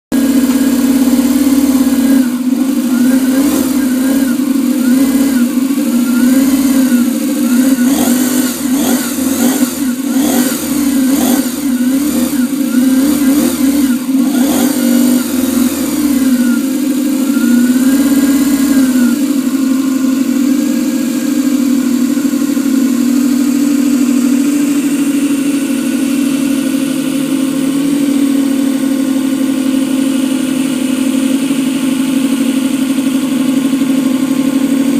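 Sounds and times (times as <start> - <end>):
model engine revving: 0.1 - 34.9.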